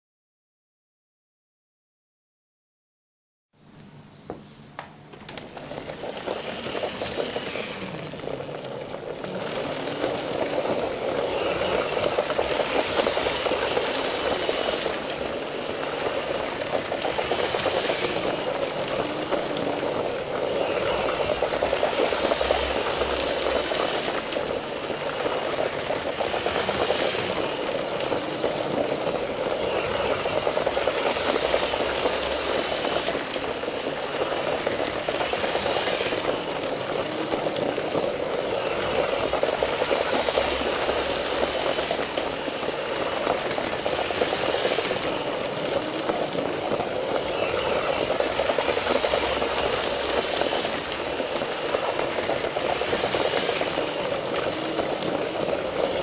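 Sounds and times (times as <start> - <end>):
wheels rolling on plastic track: 4.9 - 56.0
toy train electric motor: 5.3 - 56.0.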